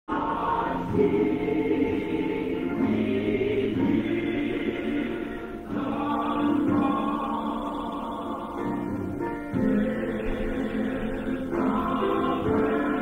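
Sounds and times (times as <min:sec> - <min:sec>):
choir singing gospel: 0:00.1 - 0:13.0.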